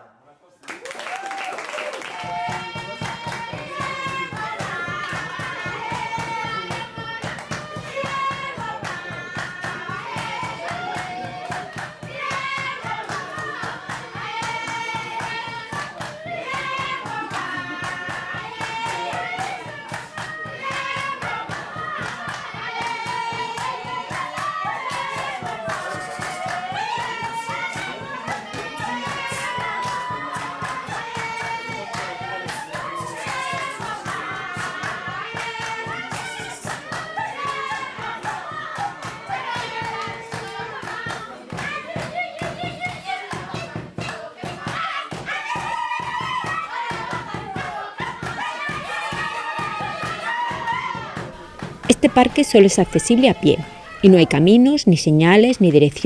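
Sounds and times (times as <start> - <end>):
fast handclaps: 0.6 - 56.0
voices singing: 2.0 - 45.3, 51.4 - 56.0.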